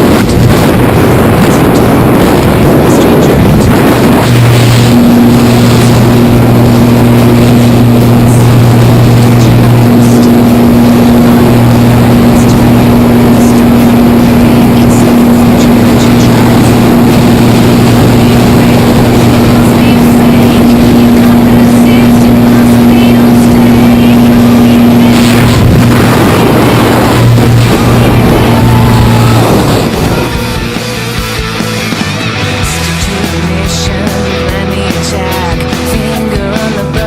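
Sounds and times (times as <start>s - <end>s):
plane engine and propeller droning: 0.0s - 36.3s.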